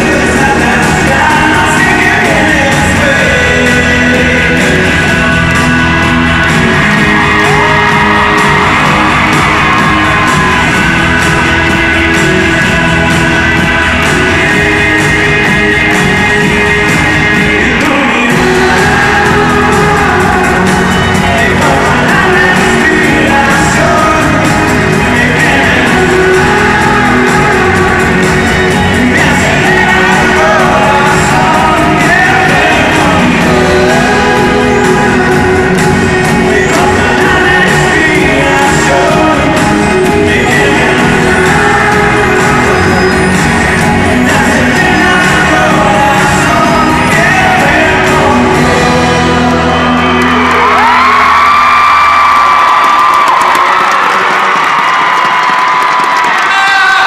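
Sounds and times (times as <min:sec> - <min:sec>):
man singing: 0:00.0 - 0:51.8
live pop band playing: 0:00.0 - 0:57.0
audience shouting along: 0:04.4 - 0:57.0.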